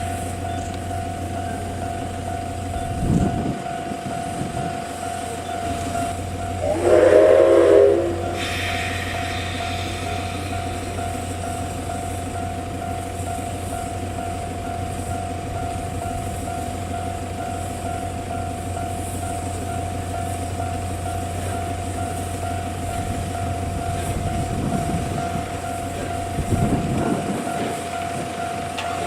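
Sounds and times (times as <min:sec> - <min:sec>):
train rail noise: 0:00.0 - 0:29.0
high crossing alarm tone: 0:00.4 - 0:29.0.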